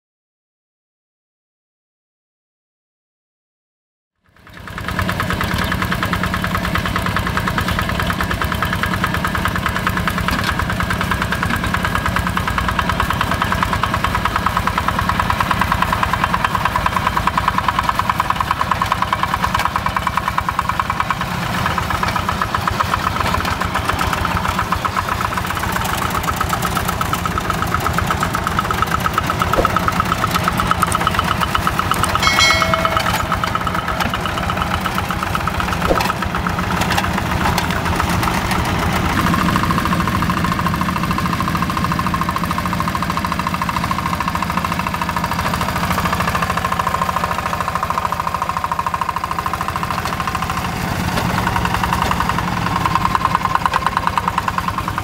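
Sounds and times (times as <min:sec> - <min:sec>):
diesel engine chugging: 0:04.3 - 0:55.0.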